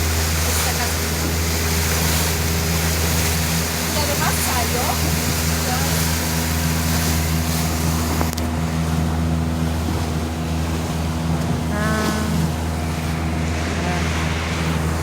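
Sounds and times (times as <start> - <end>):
boat engine humming: 0.0 - 15.0
water rushing: 0.0 - 15.0.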